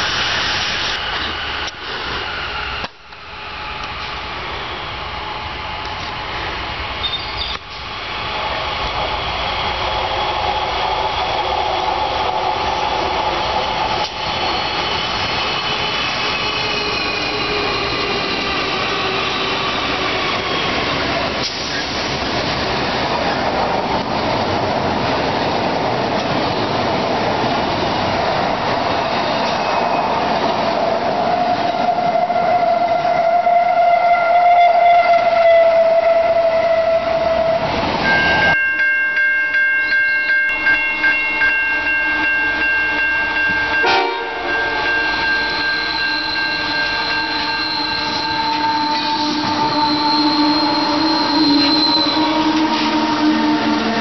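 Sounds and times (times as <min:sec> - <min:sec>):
freight train wheel noise: 0:00.0 - 0:54.0
high-pitched locomotive tones: 0:00.4 - 0:22.2, 0:31.0 - 0:54.0.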